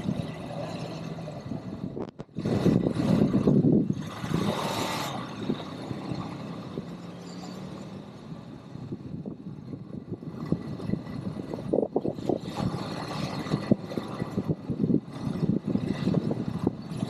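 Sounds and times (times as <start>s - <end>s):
quad bike engine: 0.0s - 17.0s.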